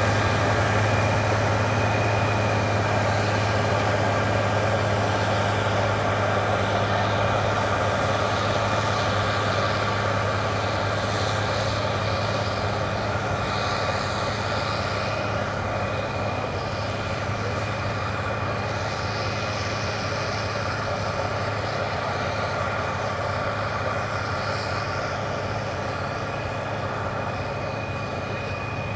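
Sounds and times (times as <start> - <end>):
thin high whine: 0.0 - 28.9
tractor diesel engine running: 0.0 - 28.9.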